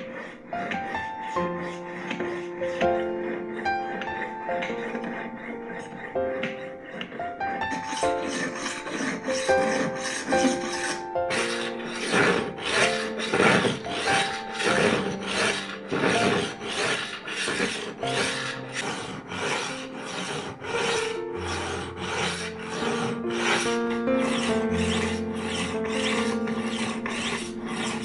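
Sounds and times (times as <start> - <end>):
knife scraping on whetstone: 0.0 - 28.0.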